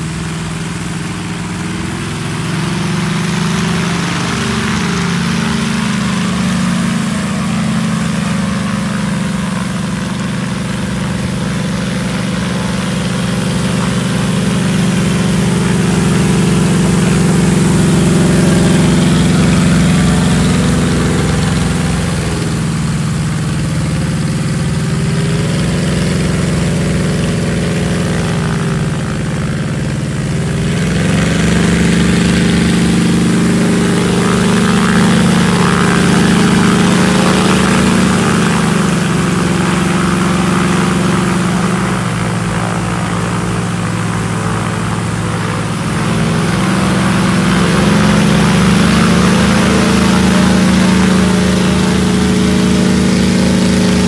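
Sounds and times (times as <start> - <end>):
light plane engine and propeller: 0.0 - 54.0.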